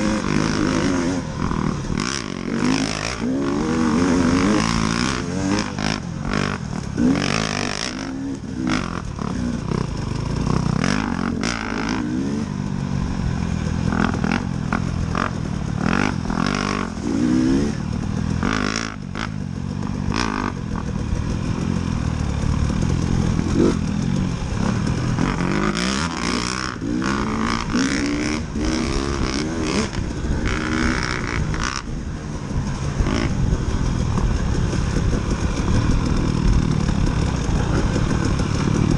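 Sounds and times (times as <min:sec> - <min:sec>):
bike knocking and rattling: 0:00.0 - 0:38.9
dirt bike engine revving: 0:00.0 - 0:38.9.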